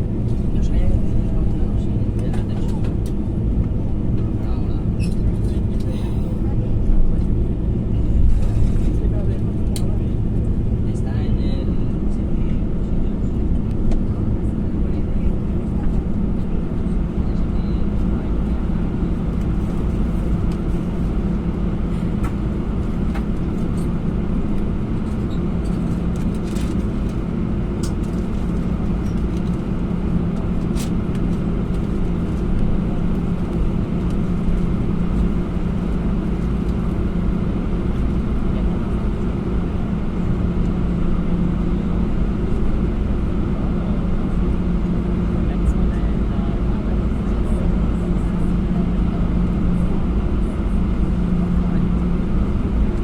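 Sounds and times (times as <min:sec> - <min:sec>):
airplane engines idling rumble: 0:00.0 - 0:53.0.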